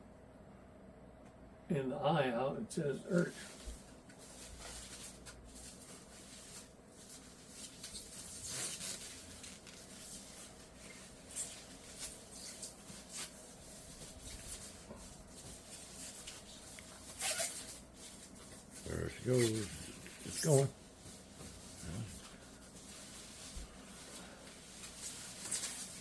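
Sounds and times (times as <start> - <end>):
packaging rustling: 3.4 - 20.7, 22.0 - 26.0.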